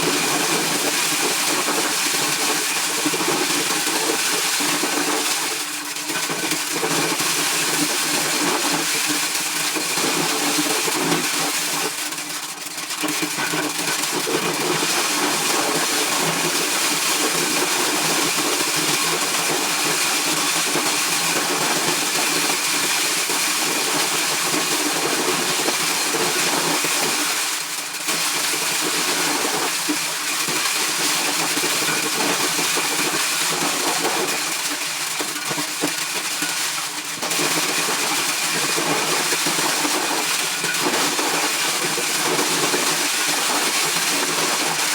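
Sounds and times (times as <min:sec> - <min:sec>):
corn-shelling machine running: 0:00.0 - 0:44.9.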